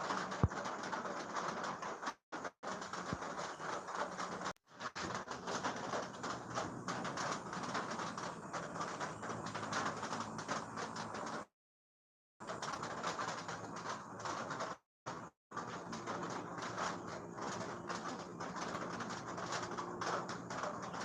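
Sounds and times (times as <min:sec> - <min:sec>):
steady rain falling: 0:00.0 - 0:11.5, 0:12.4 - 0:21.0.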